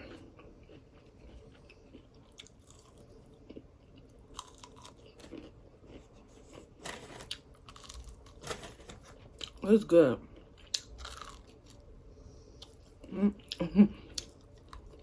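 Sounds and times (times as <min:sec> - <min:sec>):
person chewing crunchy food: 0:00.0 - 0:09.6, 0:10.2 - 0:15.0.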